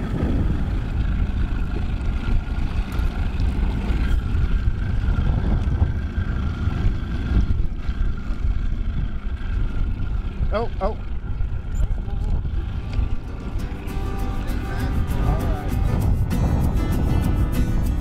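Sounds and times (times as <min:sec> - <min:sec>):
outboard motor running: 0:00.0 - 0:18.0
water noise: 0:00.0 - 0:18.0.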